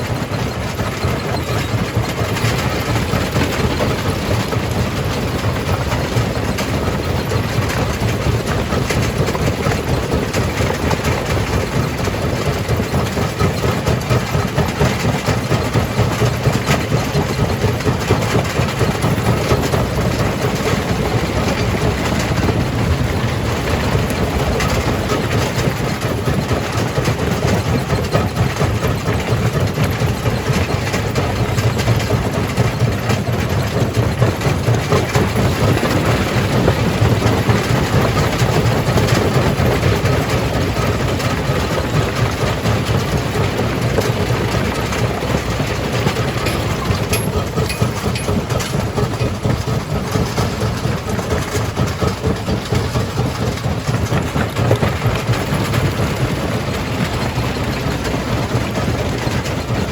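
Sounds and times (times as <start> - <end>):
jaw crusher rumbling and rattling: 0.0 - 59.9.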